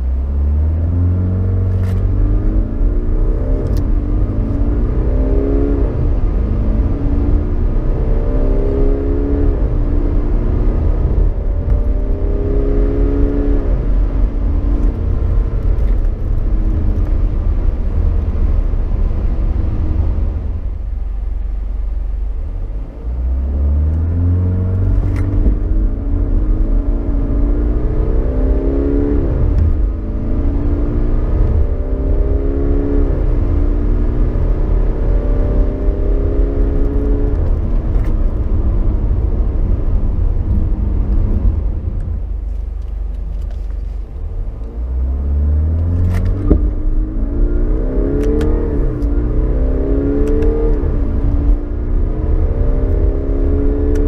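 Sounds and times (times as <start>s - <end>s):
diesel car engine accelerating: 0.0s - 54.0s.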